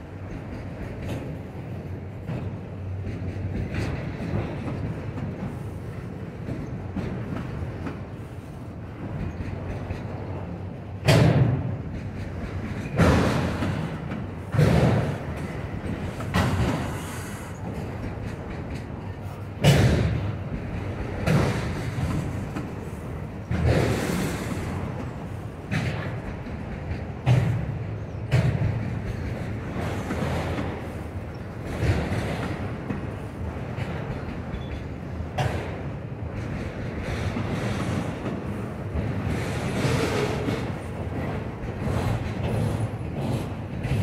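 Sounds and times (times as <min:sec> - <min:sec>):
freight train cars rumbling: 0:00.0 - 0:44.0
wheels clunking over rail joint: 0:00.0 - 0:44.0.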